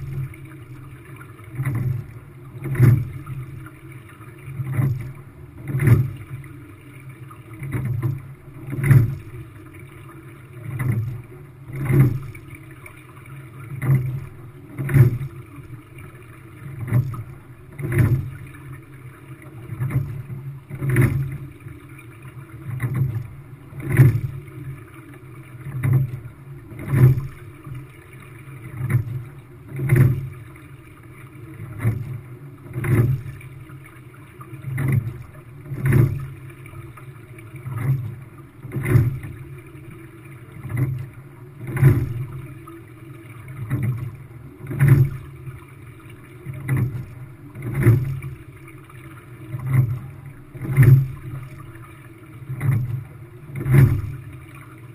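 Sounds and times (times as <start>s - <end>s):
water rushing along hull: 0.0s - 54.9s.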